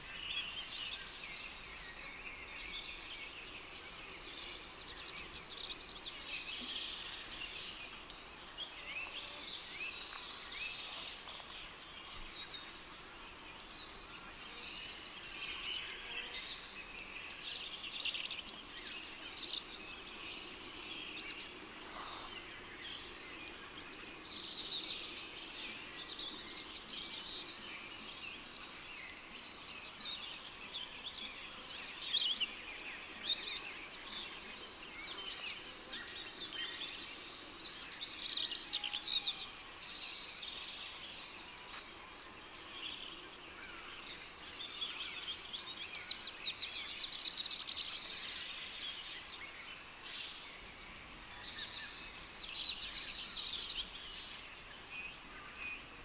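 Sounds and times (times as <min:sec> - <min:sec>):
crickets chirping: 0:09.6 - 0:38.8, 0:39.5 - 0:56.0.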